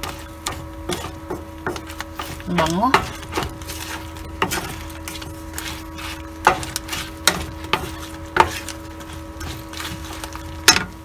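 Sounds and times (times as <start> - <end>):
steady hum: 0.0 - 11.0
wooden spatula scraping a pan: 0.0 - 11.0.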